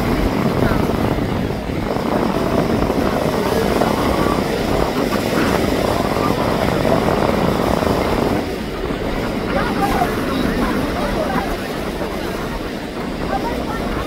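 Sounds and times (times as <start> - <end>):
aircraft engine noise: 0.0 - 14.0.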